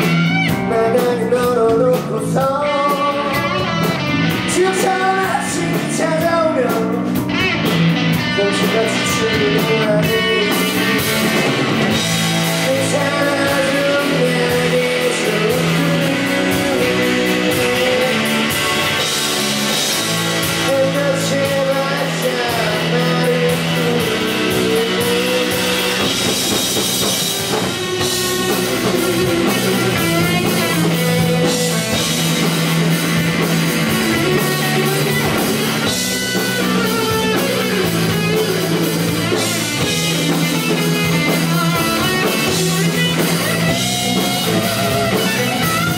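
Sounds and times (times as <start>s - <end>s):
person singing: 0.0s - 7.2s, 8.1s - 11.2s, 11.9s - 45.9s
rock band playing live: 0.0s - 45.9s
wavering melodic lead line: 0.0s - 45.9s.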